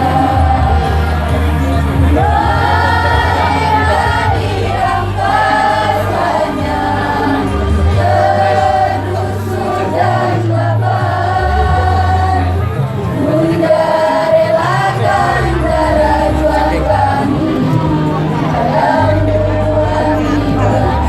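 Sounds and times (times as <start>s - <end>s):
choir singing: 0.0s - 21.0s
loud low bass line: 0.0s - 21.0s.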